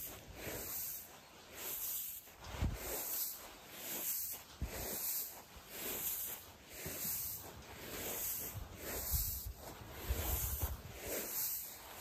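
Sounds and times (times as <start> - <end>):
grain swishing: 0.0 - 12.0.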